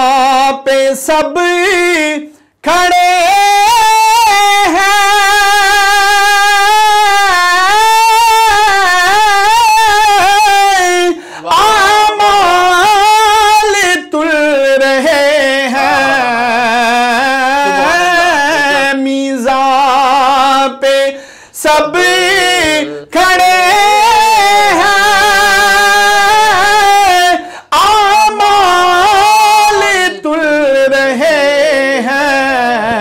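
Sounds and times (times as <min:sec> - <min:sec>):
man singing unaccompanied: 0:00.0 - 0:33.0.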